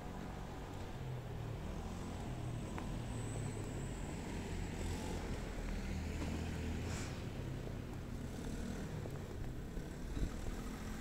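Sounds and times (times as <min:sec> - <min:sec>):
car engines passing: 0:00.0 - 0:11.0
road traffic rumble: 0:00.0 - 0:11.0.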